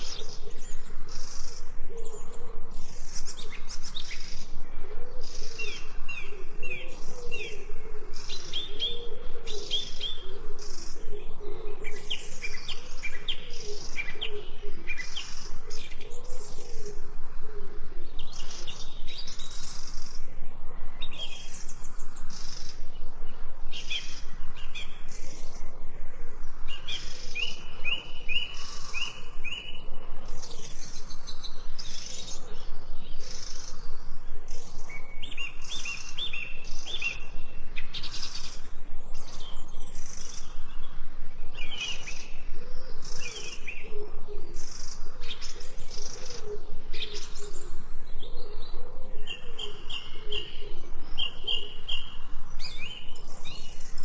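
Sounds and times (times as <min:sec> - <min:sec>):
dove cooing: 0:00.0 - 0:53.9
songbirds chirping and singing: 0:00.0 - 0:54.0.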